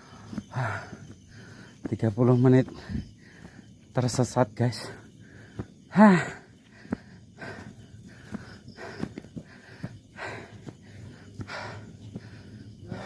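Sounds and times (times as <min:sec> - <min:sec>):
person breathing hard: 0:00.0 - 0:01.9, 0:02.7 - 0:03.9, 0:04.9 - 0:13.0.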